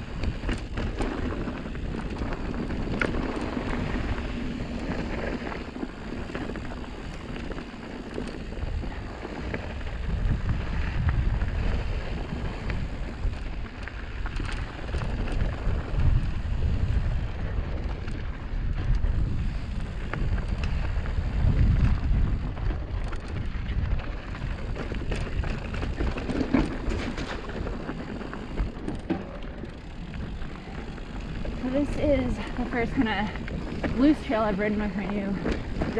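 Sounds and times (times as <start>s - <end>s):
bike clicks and rattles: 0.0s - 35.9s
bike tyres crunching on rocky dirt: 0.0s - 35.9s
wind buffeting microphone: 0.0s - 35.9s.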